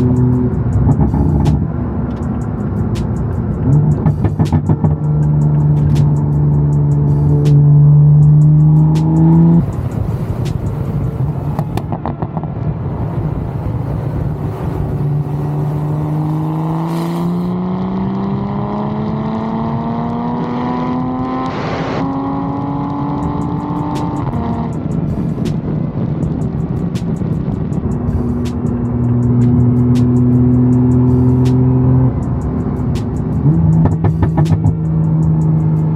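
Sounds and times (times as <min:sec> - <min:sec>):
car engine and exhaust: 0:00.0 - 0:35.9.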